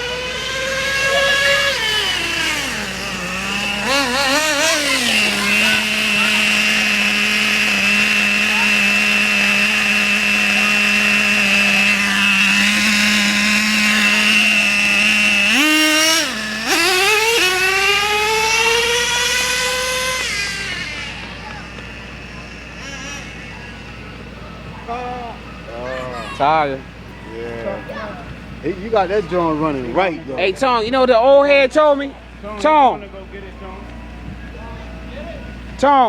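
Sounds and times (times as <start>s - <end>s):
small motorbike engine running: 0.0s - 36.0s.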